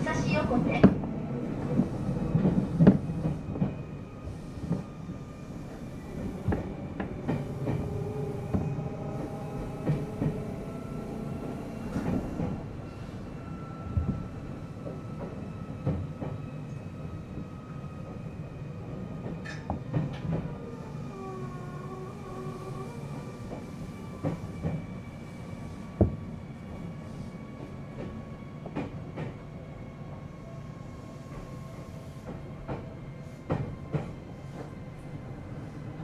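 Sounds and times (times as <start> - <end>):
electric train rumble and whine: 0.0 - 36.0.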